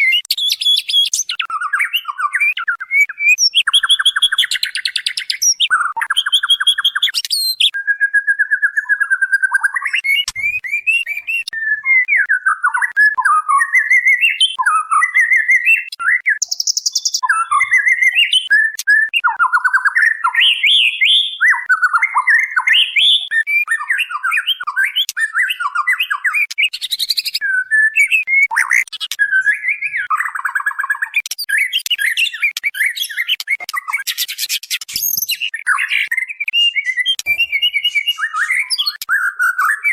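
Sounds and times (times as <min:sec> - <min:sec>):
bird chirps whistles and trills: 0:00.0 - 0:39.9.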